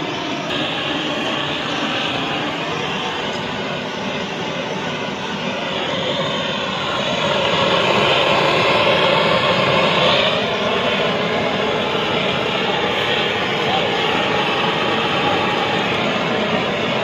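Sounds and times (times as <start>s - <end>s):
blowtorch flame roaring: 0.0s - 17.0s.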